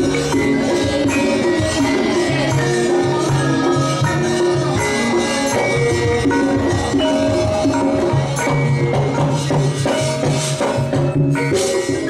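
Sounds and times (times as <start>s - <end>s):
hand drum strokes: 0.0s - 12.0s
ringing metallophone notes: 0.0s - 12.0s.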